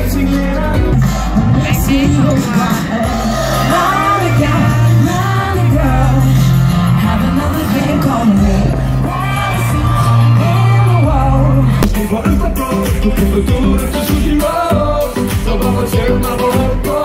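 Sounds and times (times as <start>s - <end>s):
bass line: 0.0s - 17.0s.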